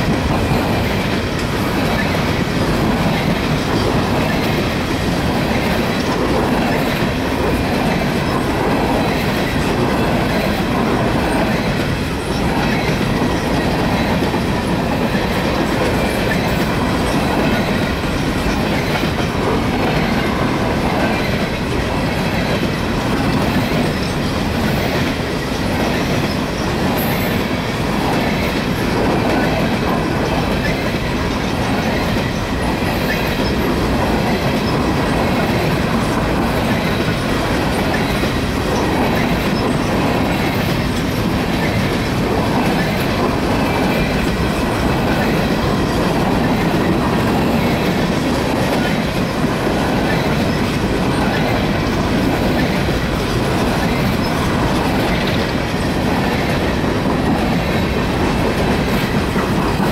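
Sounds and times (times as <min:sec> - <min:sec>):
train wheels clattering on rails: 0:00.0 - 0:59.9.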